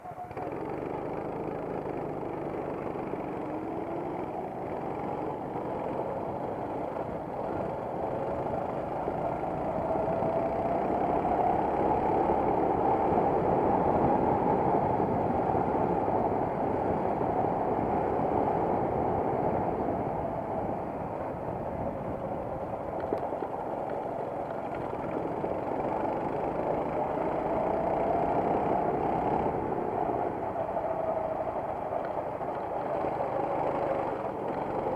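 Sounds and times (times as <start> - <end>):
racing kart engine: 0.0 - 34.9
steady rushing noise: 0.0 - 34.9.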